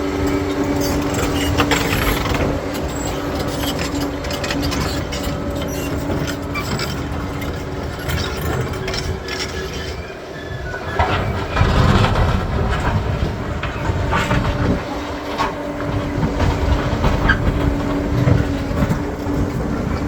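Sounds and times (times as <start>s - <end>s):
bulldozer diesel engine: 0.0s - 20.0s
steel tracks clanking: 0.0s - 20.0s.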